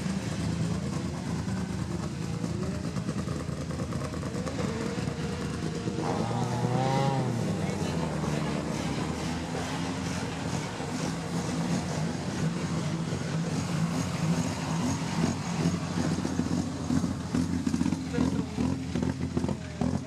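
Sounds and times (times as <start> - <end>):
rally car engine running: 0.0 - 20.0.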